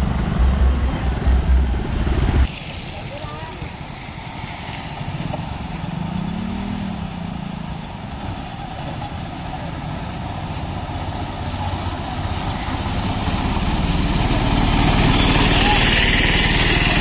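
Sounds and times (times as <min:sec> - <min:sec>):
autorickshaw engine approaching: 0:00.0 - 0:17.0
motorcycle engine: 0:00.0 - 0:17.0
water splashing under wheels: 0:02.4 - 0:17.0.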